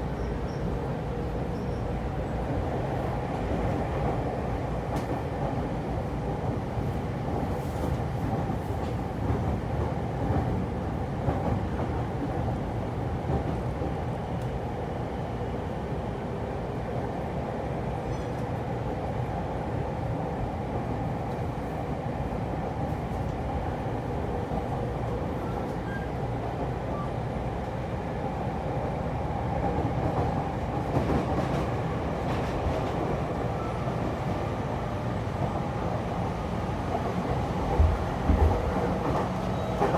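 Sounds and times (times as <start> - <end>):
train wheels rumbling on rails: 0.0 - 15.5, 18.0 - 39.9.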